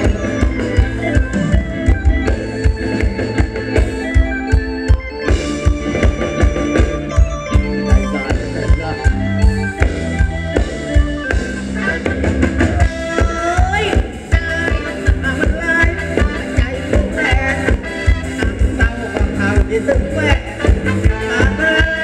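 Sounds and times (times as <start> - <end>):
steady drum beat: 0.0 - 22.0
sustained keyboard chords: 0.0 - 22.0.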